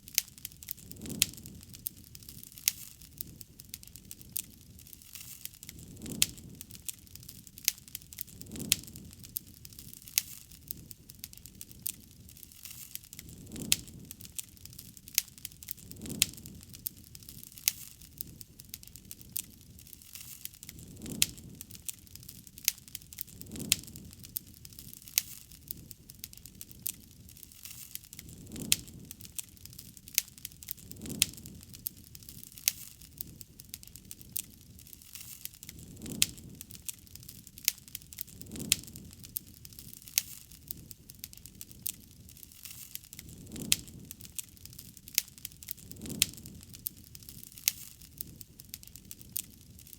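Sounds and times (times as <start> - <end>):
campfire crackling and popping: 0.0 - 49.9
low rush of flame: 0.0 - 49.9.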